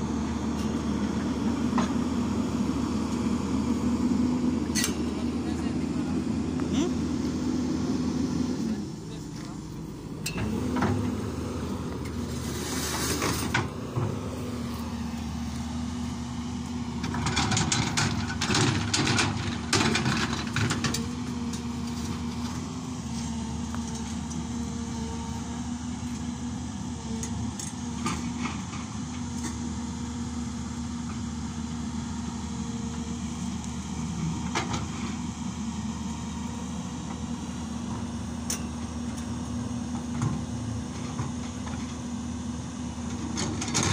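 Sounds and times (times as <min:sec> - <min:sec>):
excavator diesel engine hum: 0:00.0 - 0:43.9.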